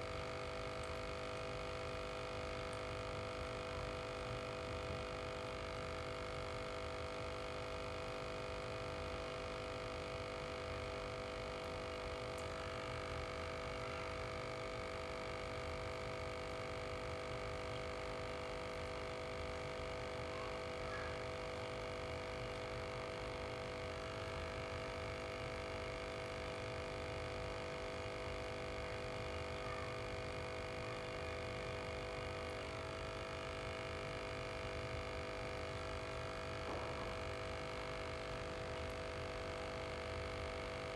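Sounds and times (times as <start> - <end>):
aquarium air pump humming: 0.0 - 40.9.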